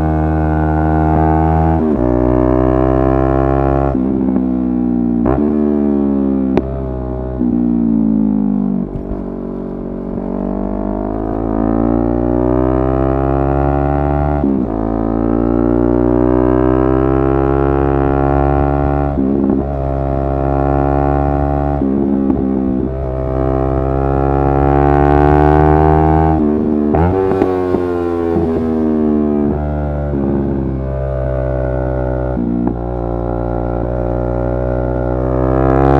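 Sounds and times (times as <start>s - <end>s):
motorcycle engine running under load: 0.0s - 35.9s.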